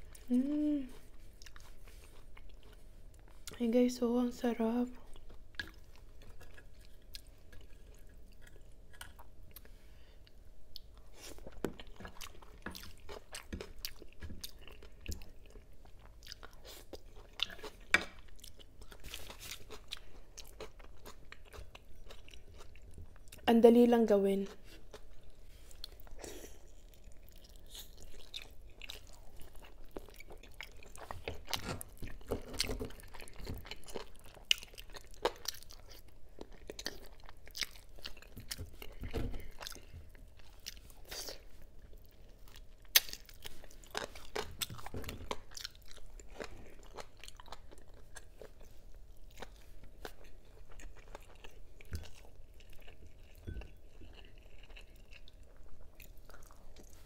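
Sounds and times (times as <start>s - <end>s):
chewing and biting food: 1.0s - 3.6s, 5.0s - 23.5s, 24.5s - 57.0s.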